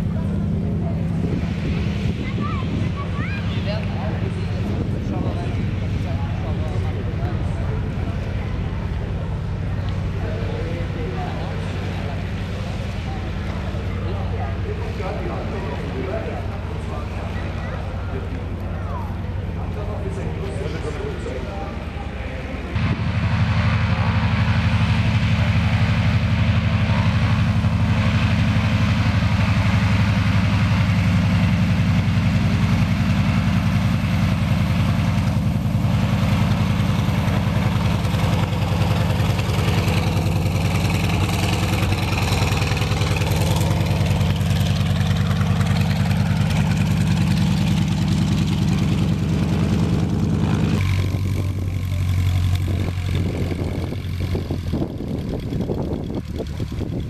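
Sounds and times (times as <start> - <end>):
aircraft radial engine drone: 0.0 - 57.0.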